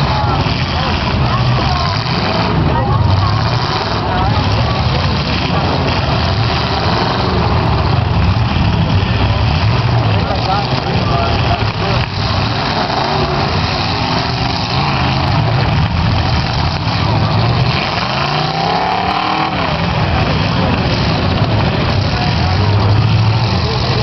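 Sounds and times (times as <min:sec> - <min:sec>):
car engines running: 0:00.0 - 0:24.0
engine revving: 0:00.0 - 0:24.0.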